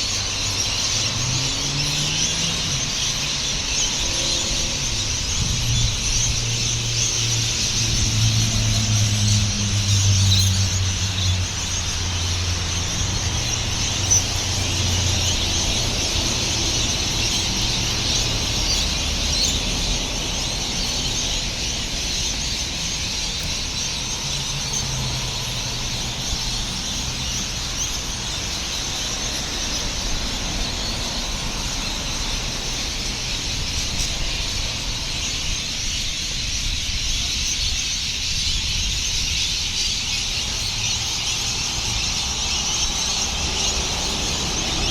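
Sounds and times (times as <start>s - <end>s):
chorus of birds calling: 0.0s - 44.9s
low rumble of road traffic: 0.0s - 44.9s.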